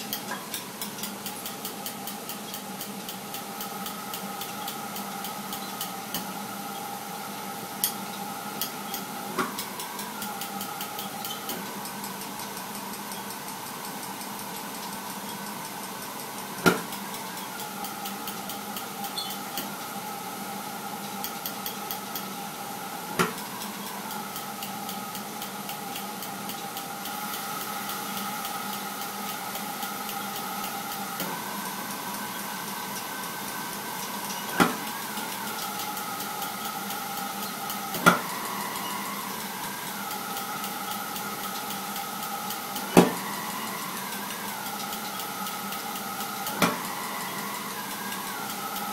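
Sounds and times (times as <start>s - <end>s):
whistling gas burner flow: 0.0s - 48.9s.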